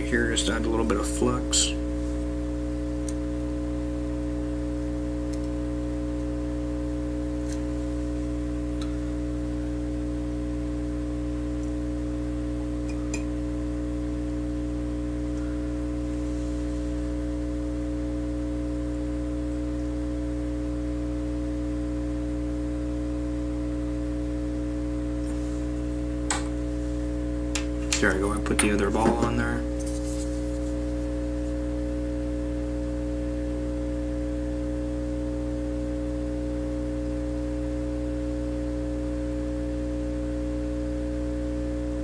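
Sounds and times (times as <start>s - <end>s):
steady electrical hum: 0.0s - 42.0s.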